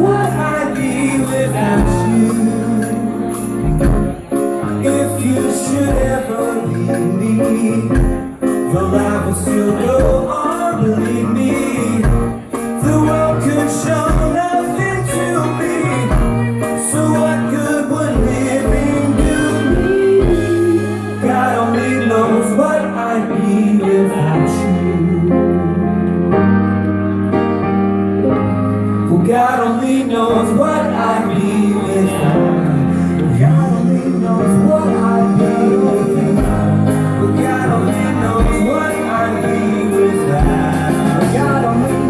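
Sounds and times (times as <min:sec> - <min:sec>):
voices singing harmonies: 0:00.0 - 0:26.5, 0:29.1 - 0:42.0
live band playing pop ballad: 0:00.0 - 0:42.0.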